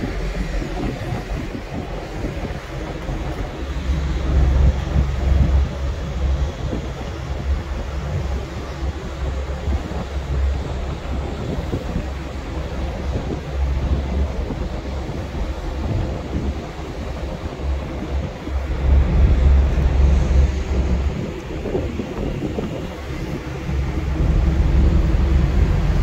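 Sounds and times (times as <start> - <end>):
hiss of sea water along hull: 0.0 - 26.0
wind buffeting microphone: 0.0 - 26.0.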